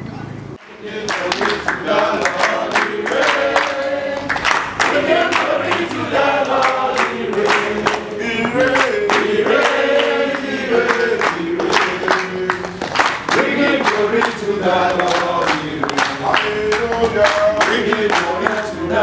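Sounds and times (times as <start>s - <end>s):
hands clapping on the beat: 0.6s - 18.7s
group singing gospel song: 0.6s - 19.0s.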